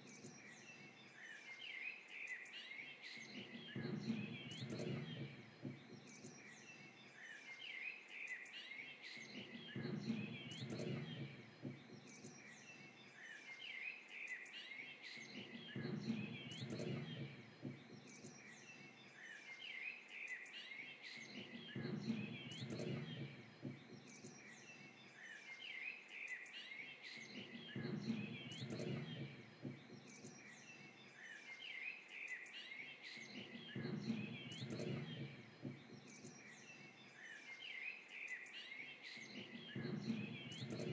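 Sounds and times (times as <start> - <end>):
forest birds chirping: 0.0 - 40.9.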